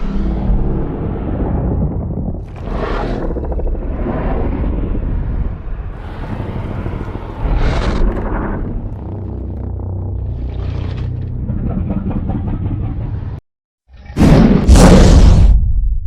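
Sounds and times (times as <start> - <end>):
deep heavy monster rumble: 0.0 - 13.4.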